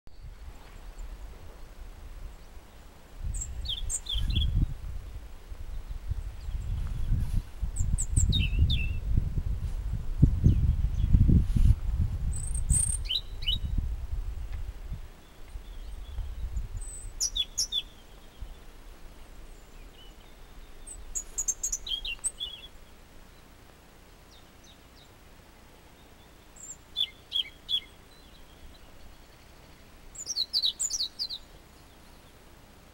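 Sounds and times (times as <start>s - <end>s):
robin singing: 0.1s - 9.2s, 9.9s - 11.4s, 12.2s - 13.8s, 14.8s - 32.6s.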